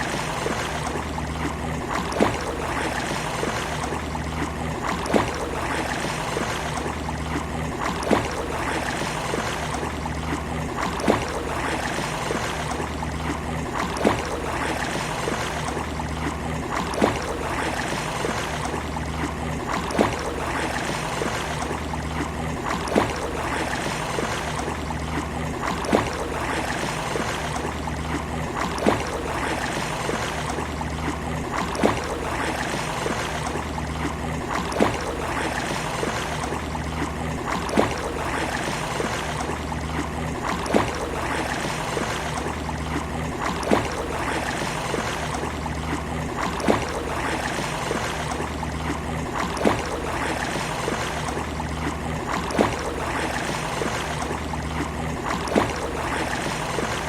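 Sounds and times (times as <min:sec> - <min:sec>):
lapping water: 0:00.0 - 0:57.0
short sharp splash: 0:00.0 - 0:57.0.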